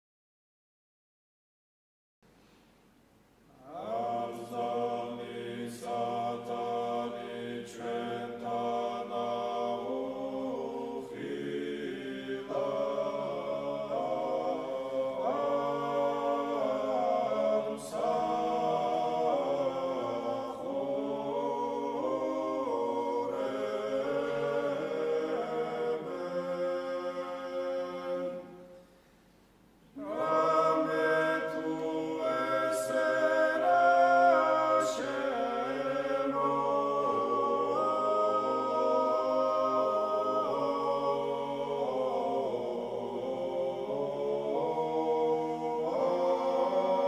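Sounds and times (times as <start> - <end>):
male choir singing a cappella: 3.6 - 28.9, 30.0 - 47.0.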